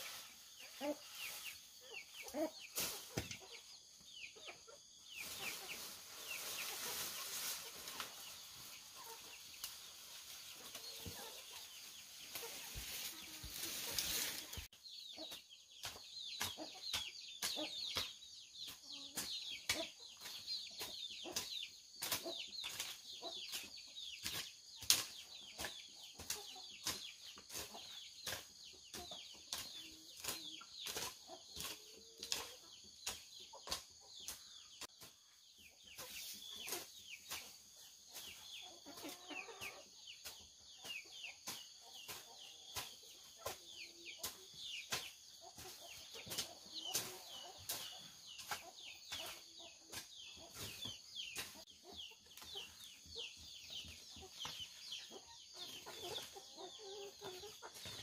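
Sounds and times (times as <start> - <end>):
chickens clucking: 0.0 - 58.0
chicks peeping: 0.0 - 58.0.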